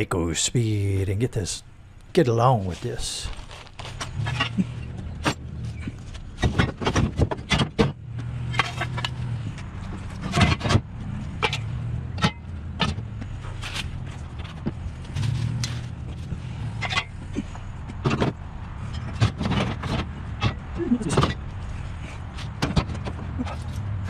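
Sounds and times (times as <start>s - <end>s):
vehicle engine running: 1.4s - 24.0s.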